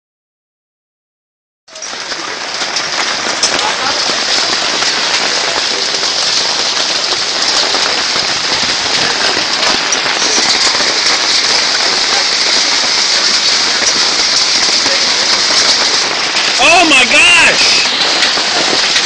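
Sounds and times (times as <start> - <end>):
heavy rain and hail: 1.7 - 19.0.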